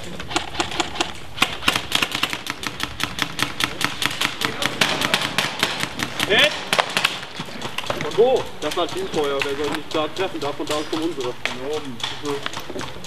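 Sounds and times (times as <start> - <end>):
airsoft guns firing: 0.0 - 13.0.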